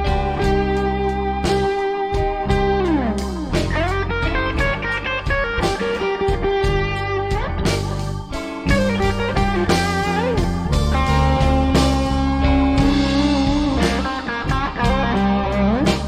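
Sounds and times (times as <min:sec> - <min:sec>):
electric guitar lead: 0:00.0 - 0:16.0
live blues-rock band: 0:00.0 - 0:16.0.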